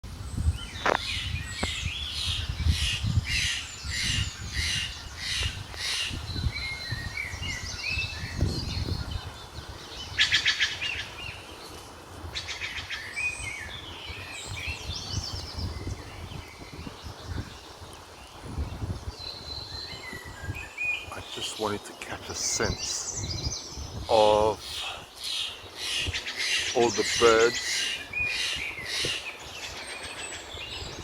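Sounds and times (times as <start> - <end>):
birds calling and chirping: 0.1 - 31.0.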